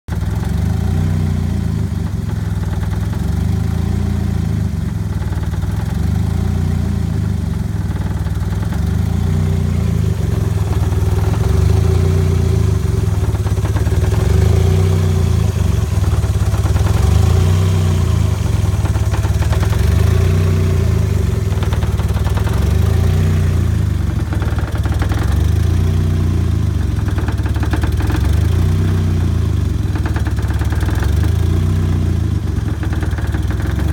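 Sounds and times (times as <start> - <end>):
car engine idling roughly: 0.1 - 33.9.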